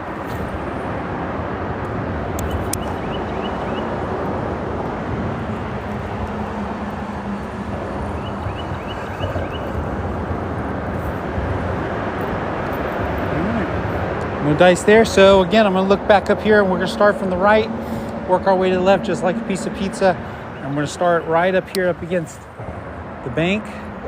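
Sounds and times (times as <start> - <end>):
freeway traffic rumble: 0.0 - 24.0.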